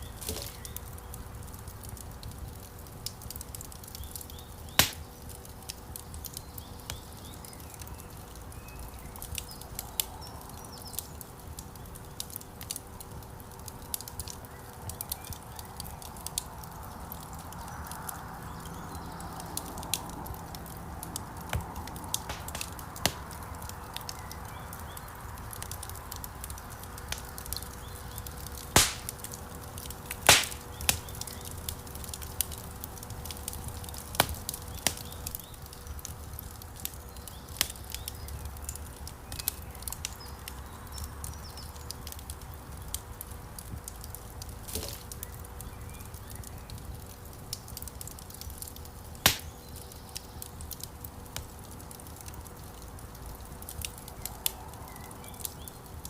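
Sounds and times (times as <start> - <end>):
loud fire pops: 0.0 - 40.4, 41.0 - 55.9
low rumble of flames: 0.0 - 56.0
wood fire crackling: 0.0 - 56.0.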